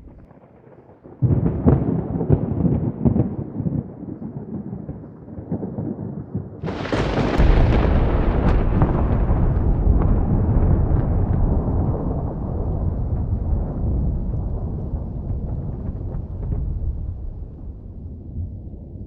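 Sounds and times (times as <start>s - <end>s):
thunder clap: 0.0s - 19.0s
thunder rumbling: 0.0s - 19.0s.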